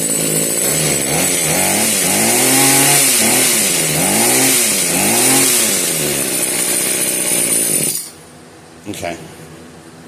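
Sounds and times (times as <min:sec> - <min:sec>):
hedge trimmer engine revving: 0:00.0 - 0:08.1.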